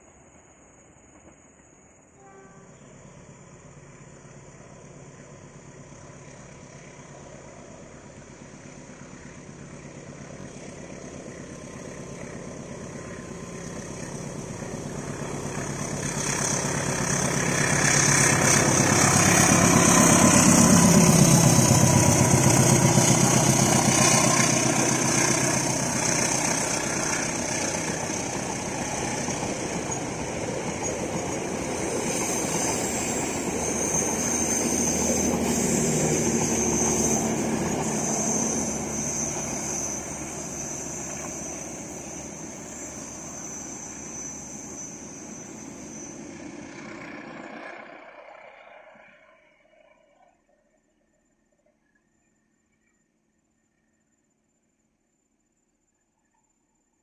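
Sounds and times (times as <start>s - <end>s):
train wheels rumbling on rails: 0.0s - 49.7s
locomotive engine: 3.0s - 50.3s.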